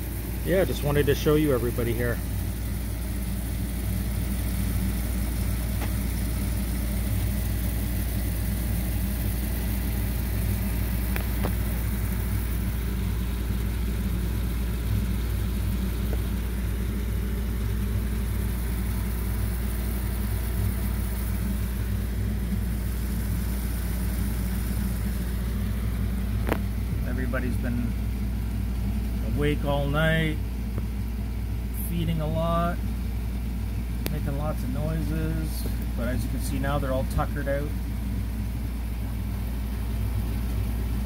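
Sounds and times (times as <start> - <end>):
low machine hum: 0.0 - 41.0.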